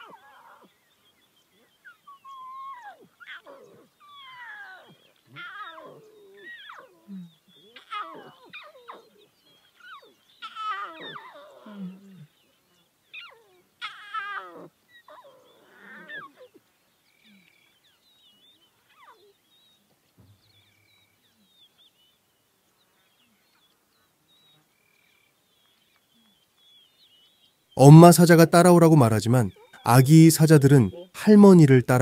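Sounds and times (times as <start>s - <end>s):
lion cubs mewing: 0.0s - 21.8s, 27.8s - 32.0s
faint high chirping: 0.0s - 32.0s.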